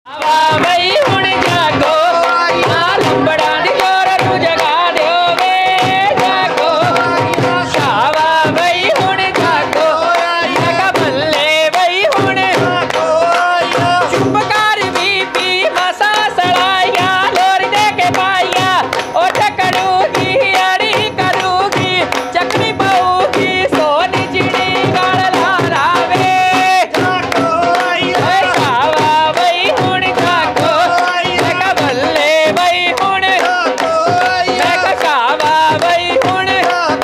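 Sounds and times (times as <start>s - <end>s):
handclaps: 0.1s - 37.0s
percussion beat: 0.1s - 37.0s
women singing folk songs: 0.1s - 37.0s.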